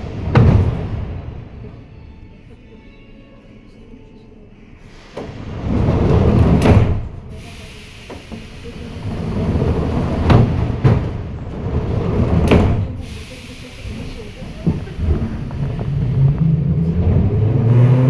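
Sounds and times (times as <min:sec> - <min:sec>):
train wheels rumbling on rails: 0:00.0 - 0:02.3, 0:04.7 - 0:18.0.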